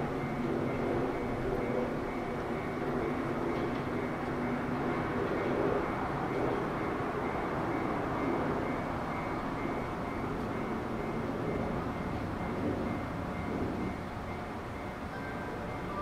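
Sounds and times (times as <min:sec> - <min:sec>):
electric train running: 0:00.0 - 0:16.0.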